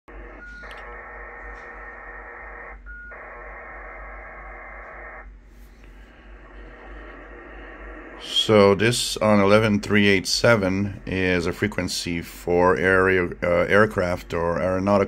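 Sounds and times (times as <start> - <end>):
radio static: 0.1 - 5.3, 6.2 - 15.0.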